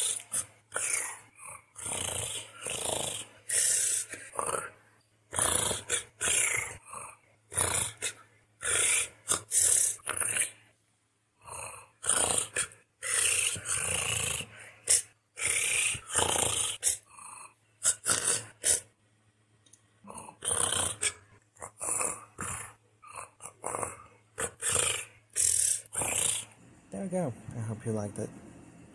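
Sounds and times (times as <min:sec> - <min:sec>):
person making purring trilled sounds: 0:00.0 - 0:10.6, 0:11.4 - 0:18.9, 0:20.0 - 0:26.6.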